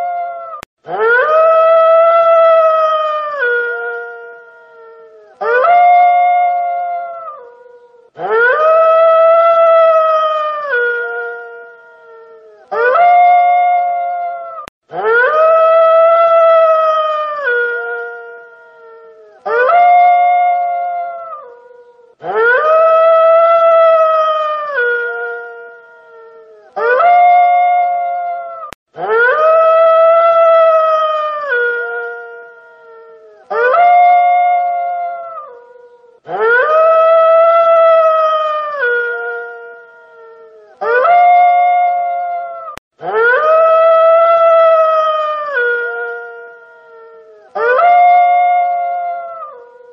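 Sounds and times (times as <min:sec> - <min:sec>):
wolf howling: 0:00.0 - 0:49.9.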